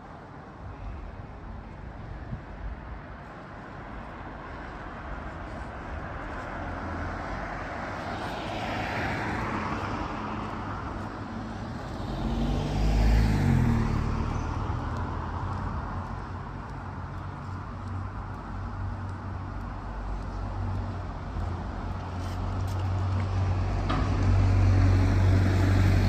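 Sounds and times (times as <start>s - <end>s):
vehicle engine hum passing: 3.2s - 26.0s
car passing: 4.2s - 26.0s.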